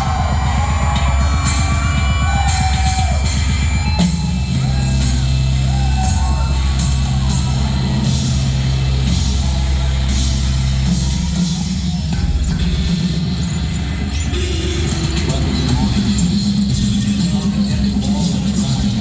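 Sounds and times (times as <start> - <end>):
loud live industrial music: 0.0 - 19.0.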